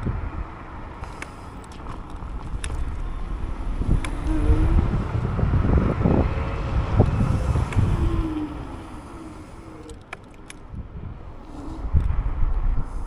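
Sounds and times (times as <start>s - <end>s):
low road rumble: 0.0s - 13.0s
wind buffeting microphone: 0.0s - 13.0s.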